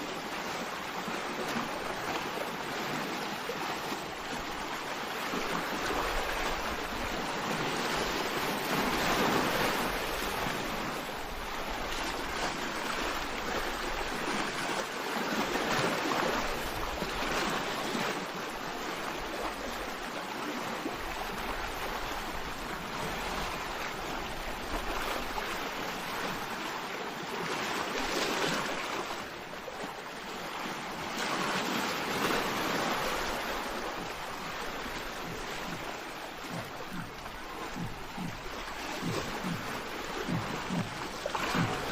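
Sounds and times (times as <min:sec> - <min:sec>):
sea waves breaking on shore: 0:00.0 - 0:41.9.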